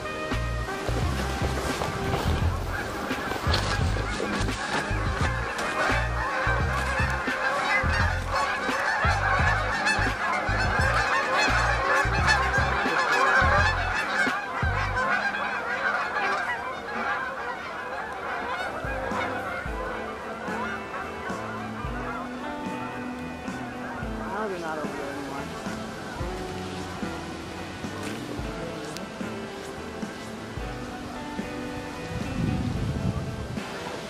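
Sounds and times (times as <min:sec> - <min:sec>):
wind buffeting microphone: 0:00.0 - 0:18.0, 0:23.6 - 0:34.0
geese honking: 0:00.0 - 0:34.0.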